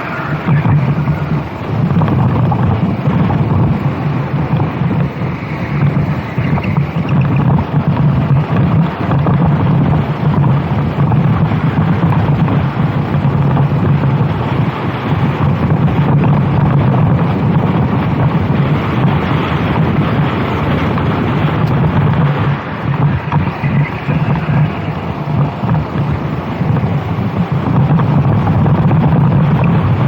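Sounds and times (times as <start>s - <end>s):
kart engine running hard: 0.0s - 30.0s
wind buffeting microphone: 0.0s - 30.0s.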